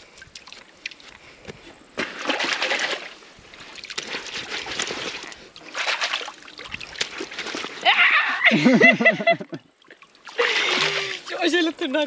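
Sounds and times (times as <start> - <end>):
water splashing in stream: 0.0 - 8.4, 9.7 - 12.0.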